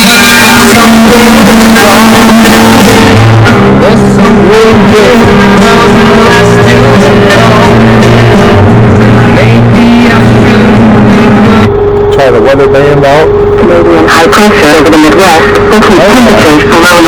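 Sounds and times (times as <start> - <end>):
loud music with singing on radio: 0.0 - 11.7, 13.6 - 17.0.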